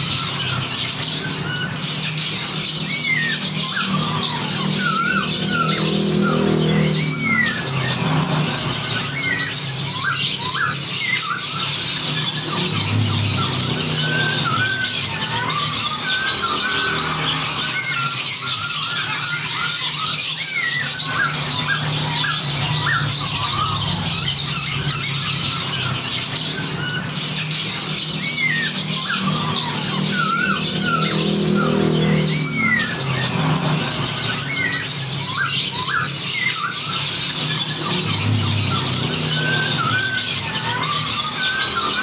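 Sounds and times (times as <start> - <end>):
songbirds chattering and whistling: 0.0 - 42.0.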